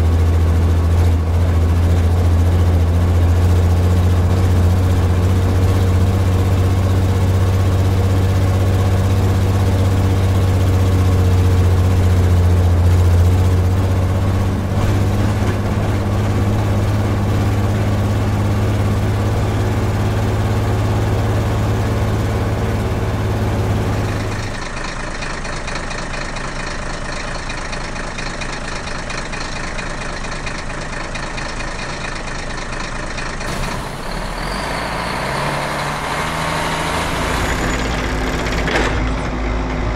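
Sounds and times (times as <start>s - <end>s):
heavy vehicle engine droning: 0.0s - 39.9s
quieter engine running: 0.0s - 39.9s.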